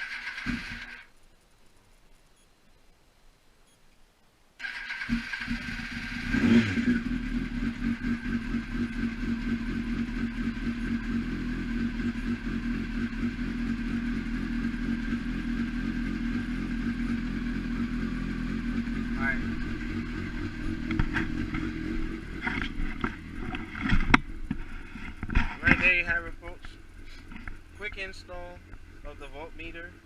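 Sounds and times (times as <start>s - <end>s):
motorcycle engine starting and idling: 0.0s - 1.2s, 4.6s - 30.0s.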